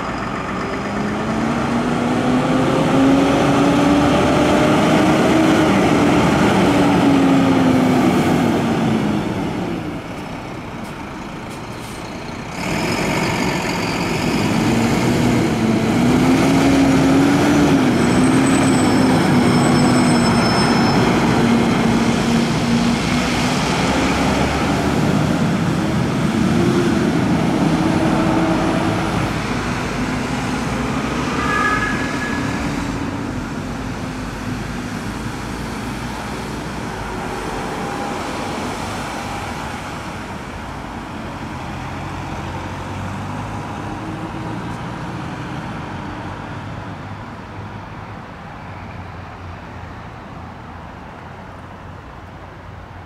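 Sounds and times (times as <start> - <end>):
fire engine driving past: 0.0 - 53.0
road traffic: 0.0 - 53.0.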